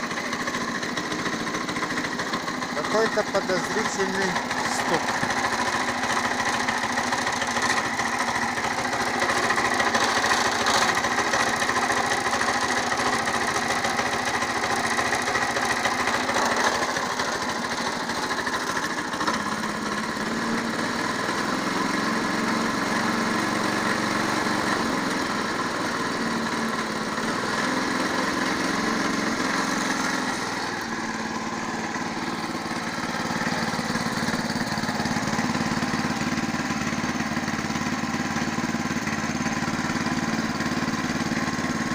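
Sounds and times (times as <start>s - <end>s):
engine knock: 0.0s - 41.9s
tractor engine running: 0.0s - 41.9s.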